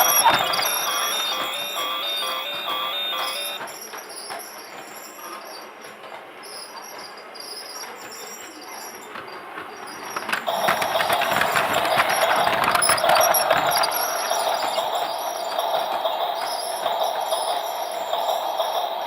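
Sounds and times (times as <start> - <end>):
toy train rattling clicks: 0.0 - 4.9, 8.5 - 19.0
toy train whine: 0.0 - 19.0.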